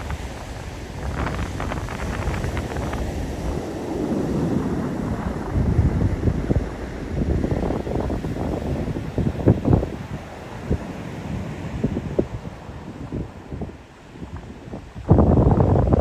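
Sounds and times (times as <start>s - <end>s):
ocean surf on beach: 0.0s - 16.0s
wind buffeting microphone: 0.0s - 16.0s.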